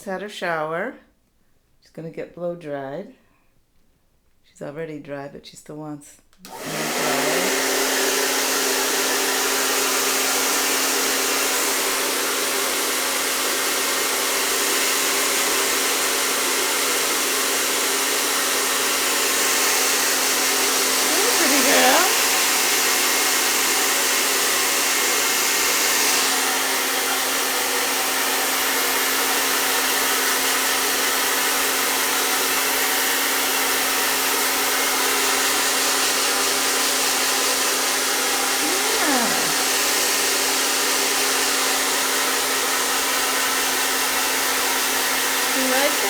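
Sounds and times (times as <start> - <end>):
hair dryer blowing: 6.4 - 46.0.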